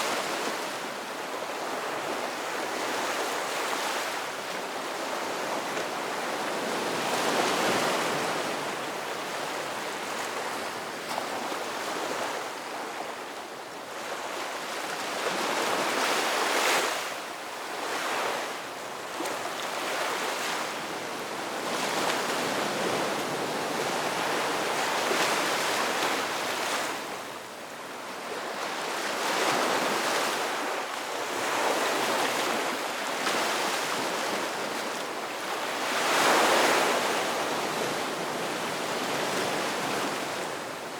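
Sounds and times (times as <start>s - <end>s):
ocean waves breaking on a beach: 0.0s - 40.9s.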